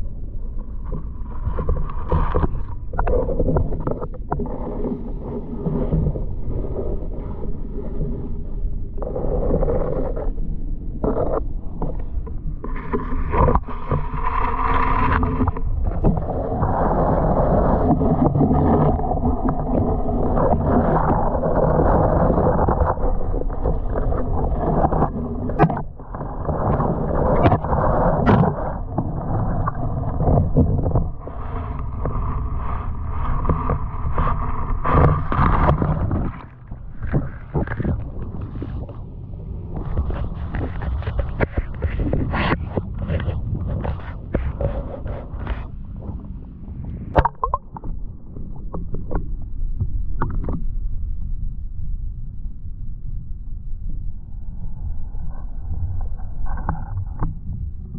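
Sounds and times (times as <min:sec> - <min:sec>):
underwater rushing and gurgling: 0:00.0 - 0:57.9.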